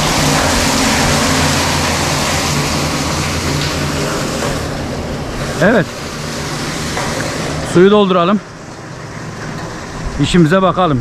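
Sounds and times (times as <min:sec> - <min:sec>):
rushing water hiss: 0:00.0 - 0:11.0
water pump engine hum: 0:00.0 - 0:11.0.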